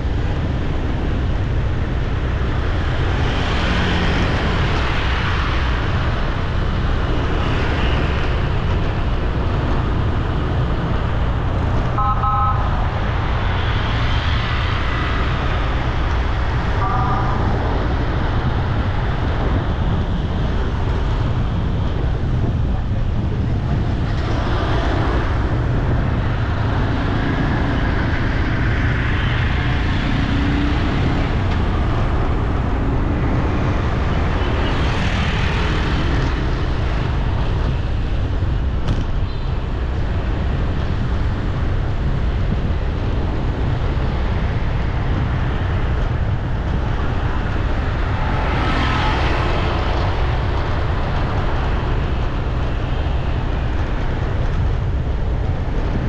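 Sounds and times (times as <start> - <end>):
street traffic rumble: 0.0 - 56.0
vehicles passing by: 0.0 - 56.0.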